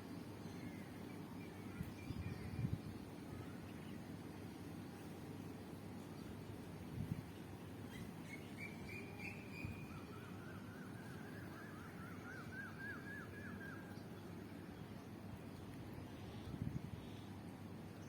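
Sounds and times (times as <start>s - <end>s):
faint birdsong chirps: 0.0s - 18.0s.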